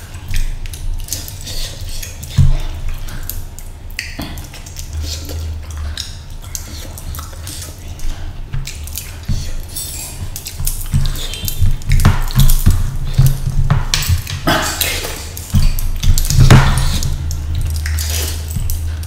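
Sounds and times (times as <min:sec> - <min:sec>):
low steady hum: 0:00.0 - 0:19.0
wet chewing and lip-smacking: 0:00.0 - 0:19.0.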